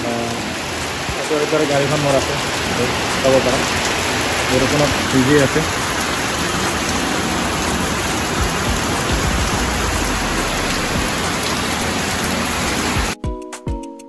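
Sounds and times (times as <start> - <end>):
heavy rain on concrete: 0.0 - 13.2.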